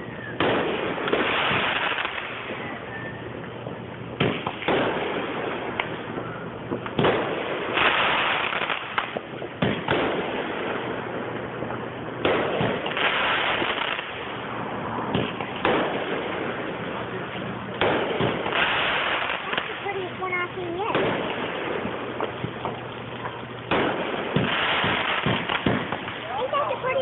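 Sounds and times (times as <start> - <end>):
firework bangs: 0.0 - 27.0
firework crackling: 0.0 - 27.0.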